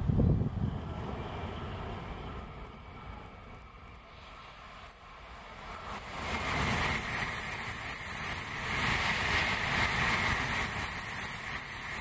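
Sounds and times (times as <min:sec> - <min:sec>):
bullet train rushing past: 0:00.0 - 0:12.0.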